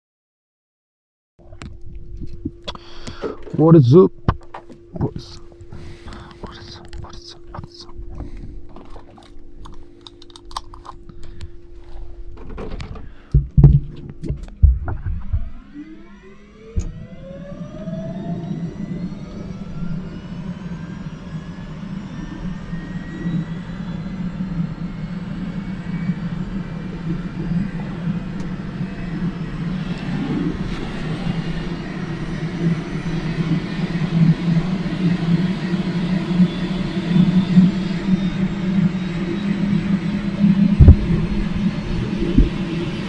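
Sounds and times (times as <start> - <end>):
helicopter turbine and rotor: 3.0 - 11.9, 15.2 - 43.0.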